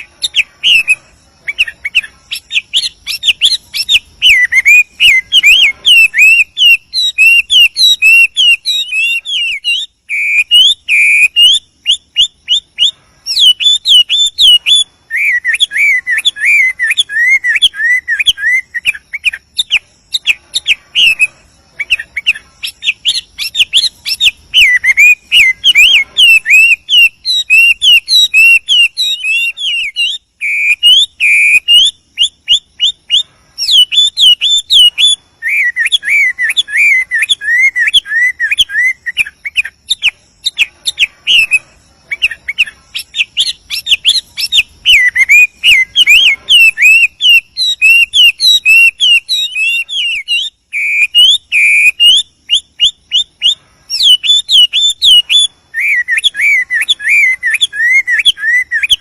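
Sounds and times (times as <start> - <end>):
bird singing whistled song: 0.0 - 59.0.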